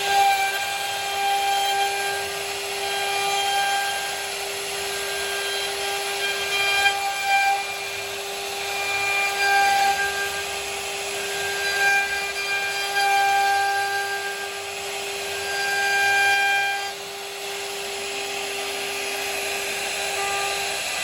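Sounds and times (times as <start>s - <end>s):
bit cutting into wood: 0.0s - 21.0s
router spindle high whine: 0.0s - 21.0s.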